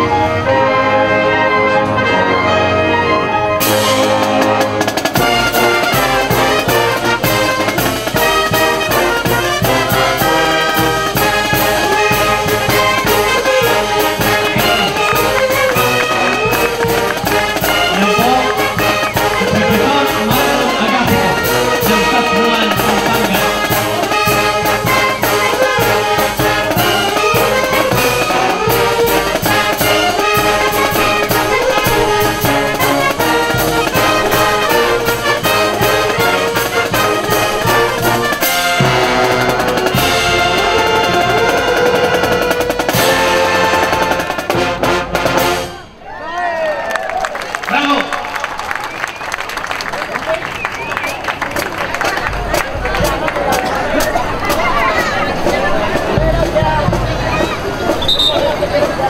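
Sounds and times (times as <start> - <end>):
marching brass band playing: 0.0 - 46.0, 47.4 - 59.0
steady drum beat: 3.6 - 45.6, 51.6 - 59.0.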